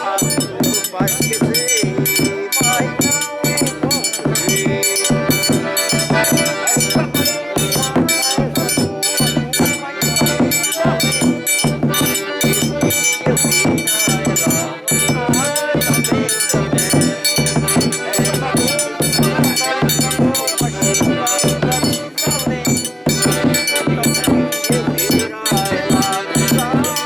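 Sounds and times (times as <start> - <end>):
bright high percussion strokes: 0.0 - 27.0
melody: 0.0 - 27.0
steady low drum beat: 0.0 - 27.0.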